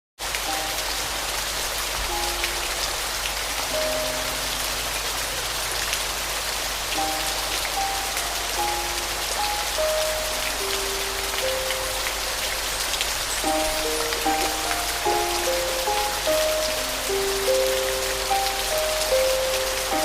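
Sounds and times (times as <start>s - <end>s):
rain falling: 0.2s - 20.0s
soft piano notes: 0.4s - 20.0s.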